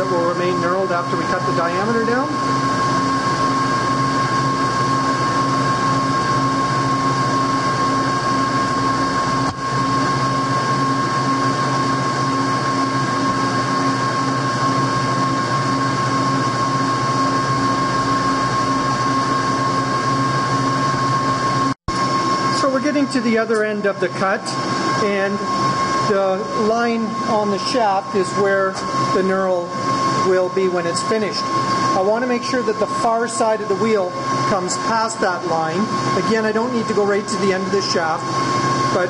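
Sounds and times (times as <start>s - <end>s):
metal lathe running: 0.0s - 39.0s.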